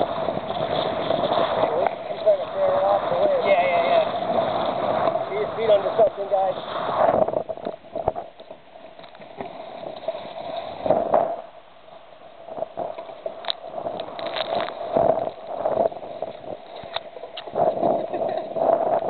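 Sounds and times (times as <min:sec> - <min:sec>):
water splashing along a hull: 0:00.0 - 0:19.0
wind on microphone: 0:00.0 - 0:19.0.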